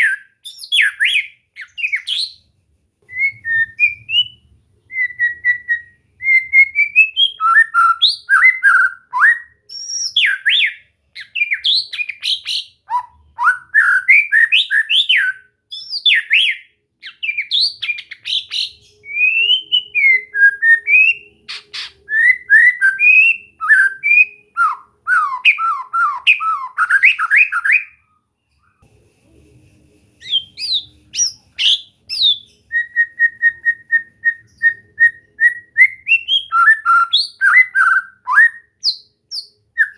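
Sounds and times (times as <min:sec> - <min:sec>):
bird singing whistled phrases: 0:00.0 - 0:02.4, 0:03.1 - 0:28.0, 0:30.2 - 0:39.9.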